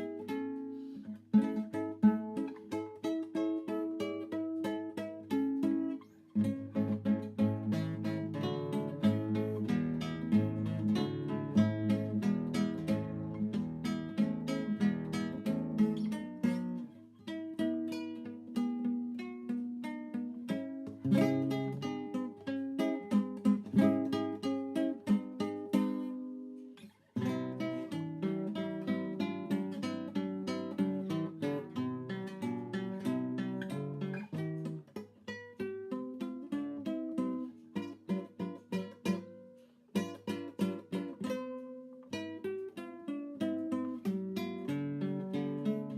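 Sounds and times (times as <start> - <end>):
acoustic guitar music: 0.0 - 45.9.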